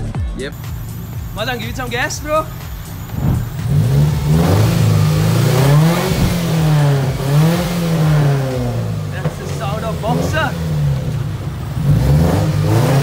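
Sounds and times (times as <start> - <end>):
car engine revving: 0.5 - 13.0.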